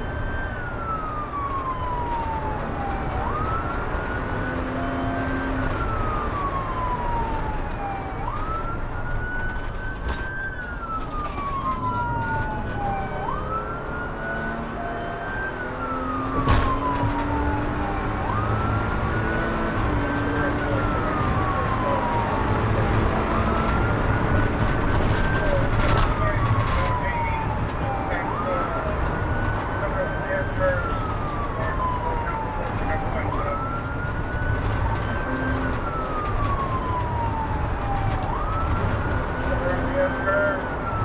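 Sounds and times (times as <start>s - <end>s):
engine and road noise: 0.0s - 41.0s
police siren wailing: 0.0s - 41.0s.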